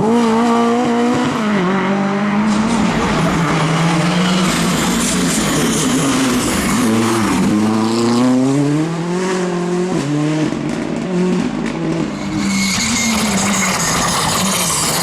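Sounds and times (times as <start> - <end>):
rally car engine pulling hard: 0.0 - 15.0.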